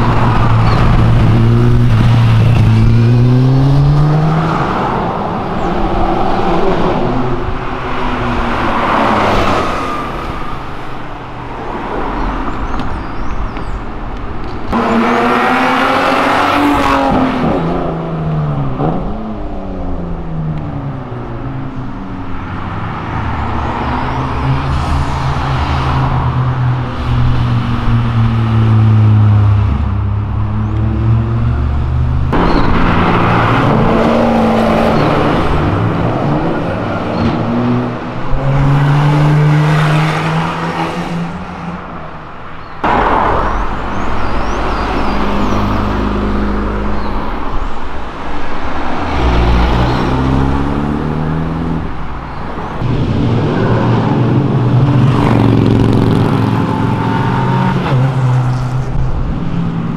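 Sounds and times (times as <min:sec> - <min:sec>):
cars accelerating past: 0:00.0 - 0:11.0, 0:14.7 - 0:20.2, 0:22.4 - 0:42.0, 0:42.8 - 0:59.9.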